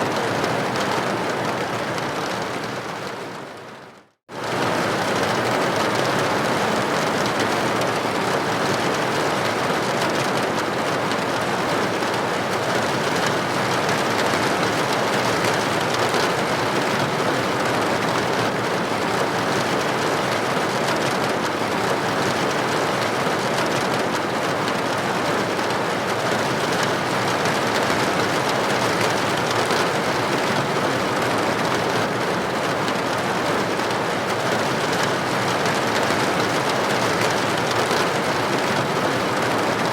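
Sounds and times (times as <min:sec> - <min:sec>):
rain striking a window: 0:00.0 - 0:39.9.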